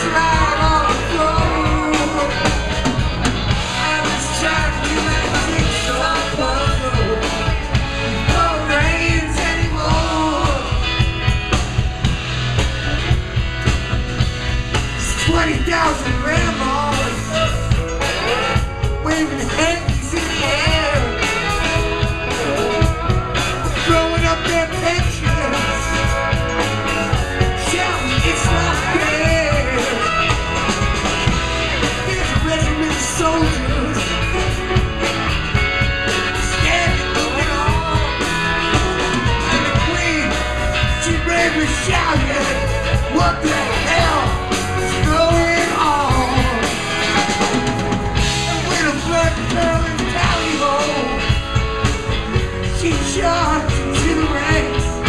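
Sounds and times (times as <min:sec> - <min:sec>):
drum kit: 0:00.0 - 0:55.0
electric bass: 0:00.0 - 0:55.0
electric guitar: 0:00.0 - 0:55.0
keyboards: 0:00.0 - 0:55.0.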